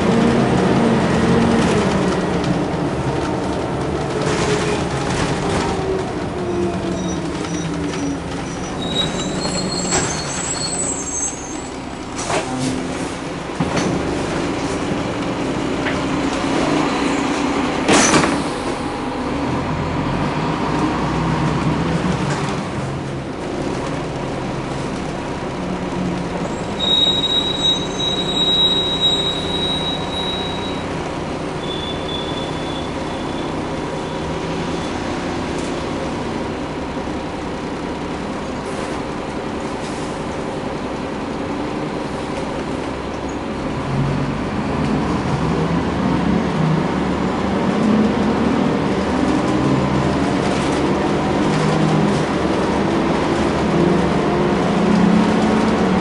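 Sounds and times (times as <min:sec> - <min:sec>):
bus diesel engine running: 0:00.0 - 0:56.0
road noise and rattles: 0:00.0 - 0:56.0.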